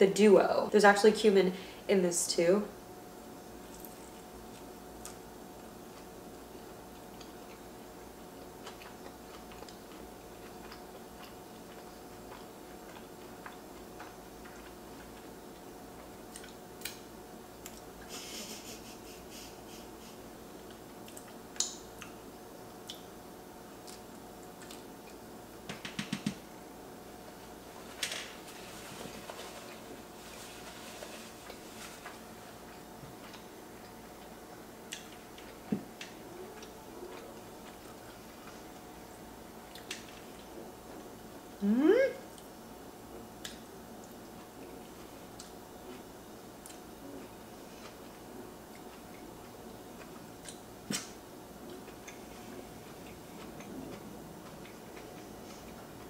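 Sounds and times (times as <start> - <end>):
faint steady hum: 0.0 - 56.0
chewing flatbread: 3.4 - 25.3, 27.4 - 41.5, 42.2 - 56.0.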